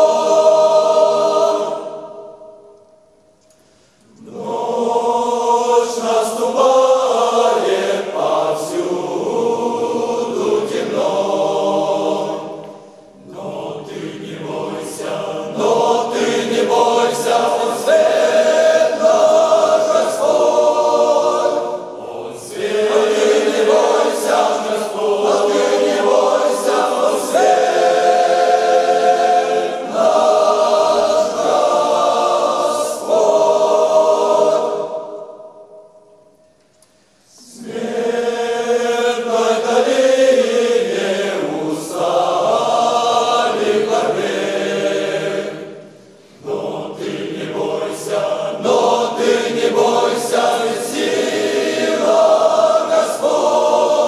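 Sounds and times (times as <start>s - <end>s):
men's choir singing a hymn: 0.0s - 2.7s, 4.1s - 36.0s, 37.3s - 54.0s.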